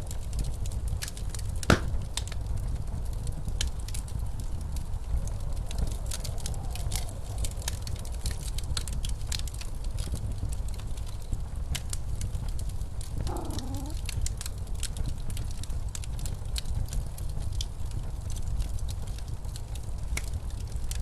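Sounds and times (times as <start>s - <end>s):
blizzard wind rumble: 0.0s - 21.0s
wood fire crackling and popping: 0.0s - 21.0s.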